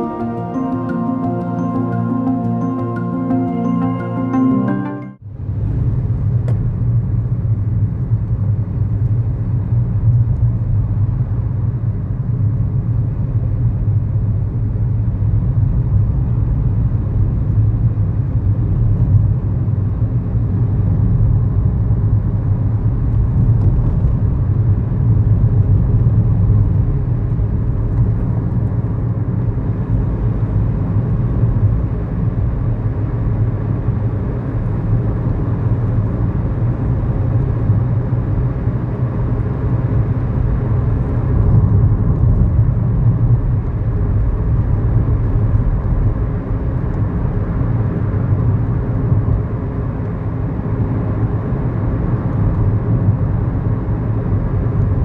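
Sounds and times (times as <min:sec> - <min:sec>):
car engine drone in cabin: 0:05.4 - 0:55.0
road and tyre rumble: 0:05.5 - 0:55.0.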